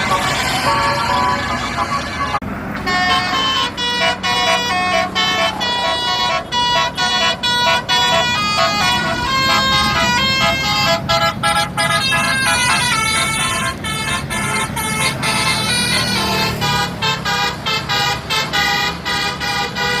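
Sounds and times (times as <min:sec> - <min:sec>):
bus engine running: 0:00.0 - 0:20.0
musical air horns playing a tune: 0:00.0 - 0:20.0.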